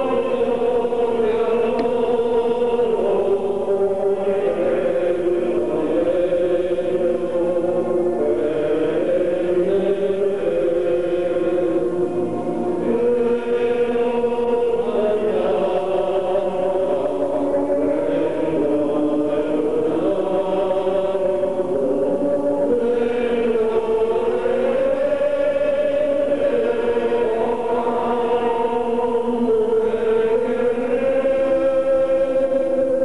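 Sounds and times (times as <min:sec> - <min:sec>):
choir singing a hymn: 0:00.0 - 0:33.0.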